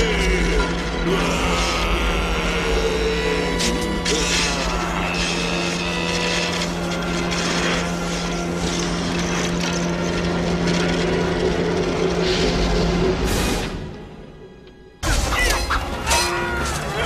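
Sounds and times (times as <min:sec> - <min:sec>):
low drone: 0:00.0 - 0:15.2.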